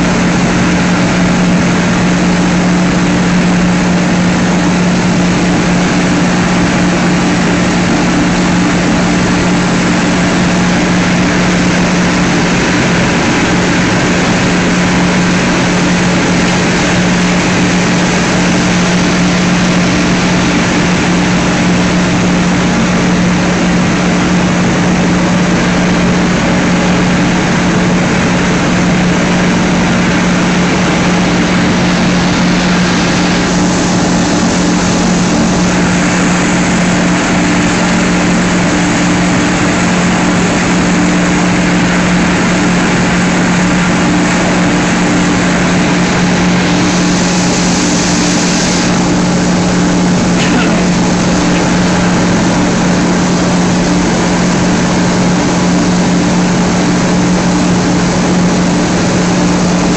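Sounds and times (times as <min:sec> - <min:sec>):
machinery running with hum: 0:00.0 - 0:59.9.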